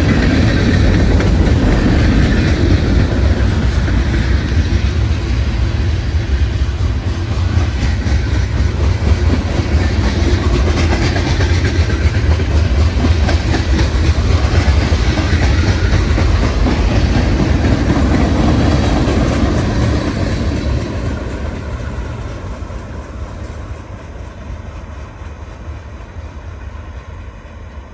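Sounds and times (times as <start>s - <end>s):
train rolling on rails: 0.0s - 27.9s.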